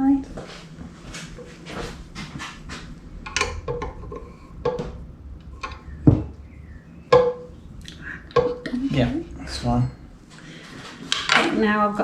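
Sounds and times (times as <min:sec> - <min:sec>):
heavy thump: 0:00.1 - 0:11.4.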